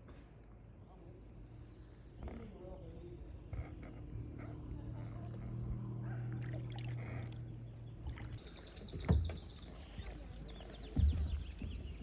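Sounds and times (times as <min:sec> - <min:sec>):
kayak paddling on water: 0:01.3 - 0:12.0.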